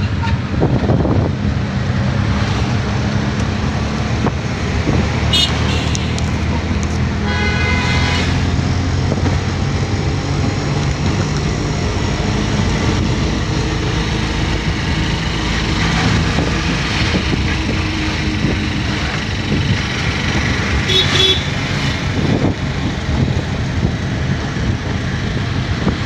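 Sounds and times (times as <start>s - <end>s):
auto-rickshaw engine running: 0.0s - 26.0s
road noise: 0.0s - 26.0s.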